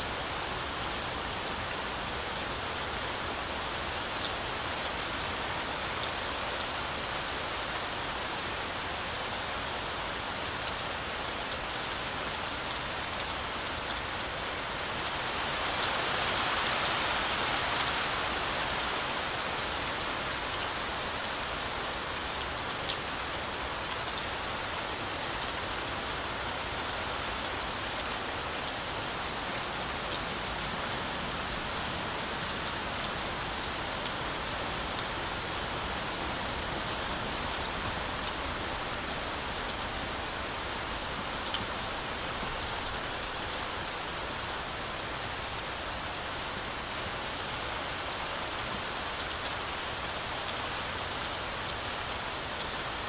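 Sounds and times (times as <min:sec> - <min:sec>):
heavy rain through forest canopy: 0:00.0 - 0:53.0.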